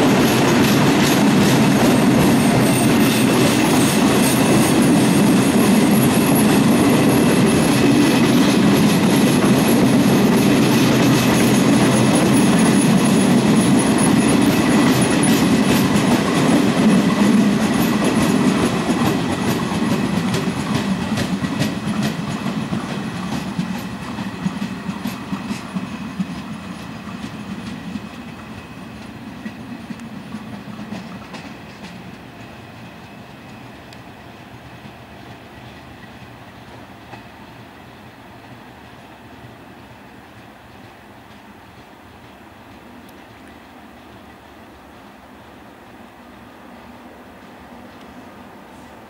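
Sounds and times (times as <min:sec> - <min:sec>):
train wheels clacking on rails: 0:00.0 - 0:46.4.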